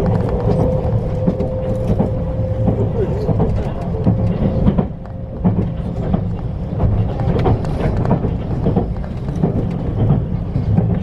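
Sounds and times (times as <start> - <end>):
knocks and rattles: 0.0 - 11.0
vehicle ride rumble: 0.0 - 11.0.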